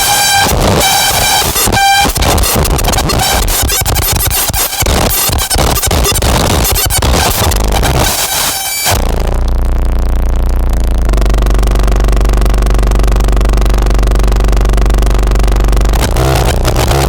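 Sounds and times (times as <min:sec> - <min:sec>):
distorted synthesizer drone: 0:00.0 - 0:17.0.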